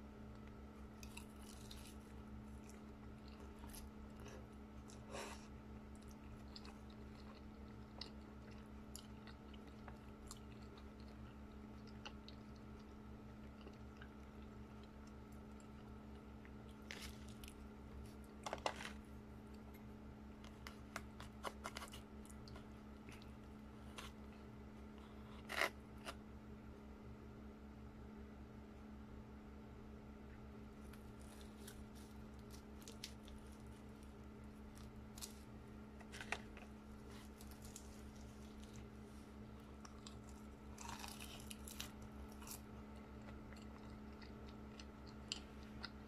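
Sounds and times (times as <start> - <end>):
faint steady hum: 0.0 - 46.0
chewing and crunching: 0.3 - 26.2, 30.8 - 46.0.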